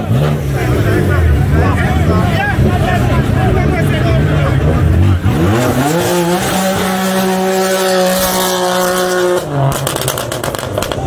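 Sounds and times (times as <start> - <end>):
race car engine at full throttle: 0.0 - 11.0
rapid exhaust crackles: 0.0 - 11.0.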